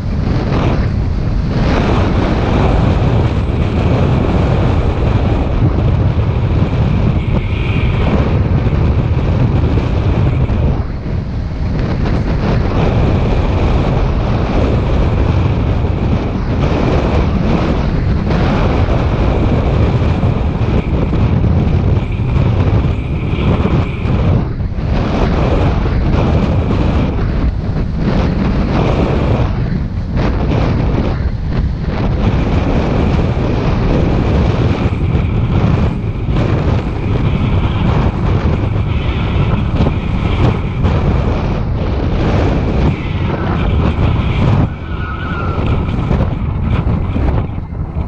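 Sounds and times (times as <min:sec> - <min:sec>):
thin high whine: 0:00.0 - 0:48.0
wind buffeting microphone: 0:00.0 - 0:48.0.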